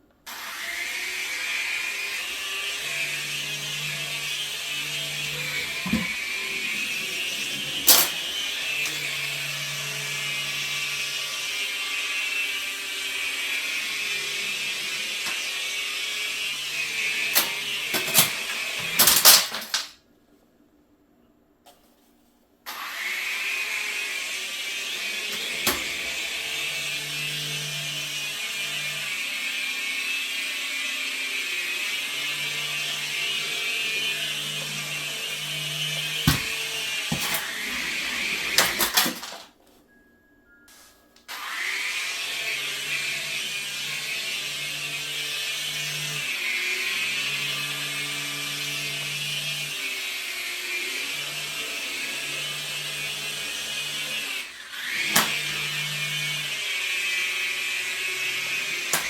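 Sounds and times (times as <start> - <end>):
toy helicopter whining: 0.3 - 19.9, 22.7 - 39.4, 41.3 - 59.0.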